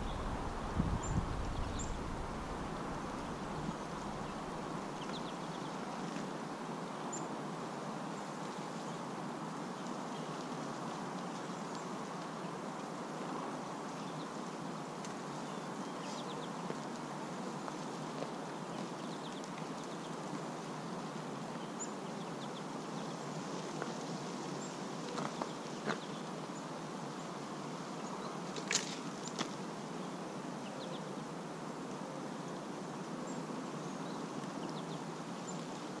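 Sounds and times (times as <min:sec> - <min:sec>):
outdoor background noise: 0:00.0 - 0:36.0.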